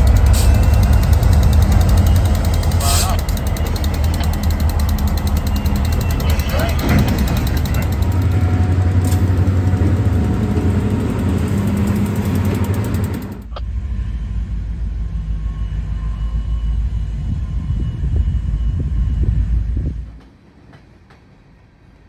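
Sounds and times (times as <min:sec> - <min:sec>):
locomotive engines rumbling: 0:00.0 - 0:22.0.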